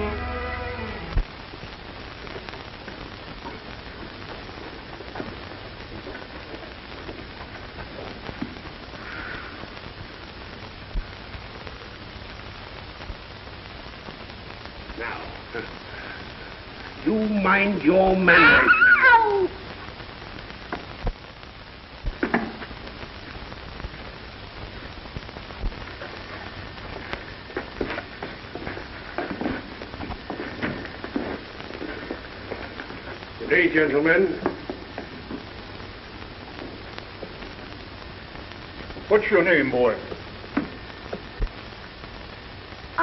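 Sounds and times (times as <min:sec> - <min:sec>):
crackling hiss: 0:00.0 - 0:43.0.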